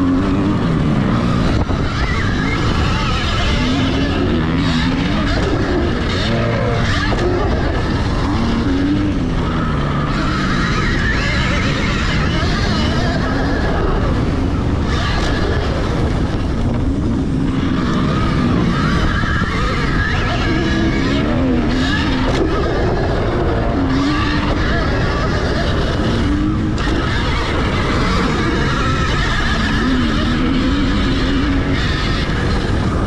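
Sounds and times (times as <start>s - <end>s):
dirt bike engines revving: 0.0s - 33.0s
wind and tyre noise: 0.0s - 33.0s.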